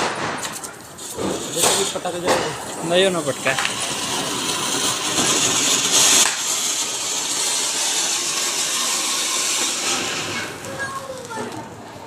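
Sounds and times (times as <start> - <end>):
firework spraying hiss: 0.0 - 11.9.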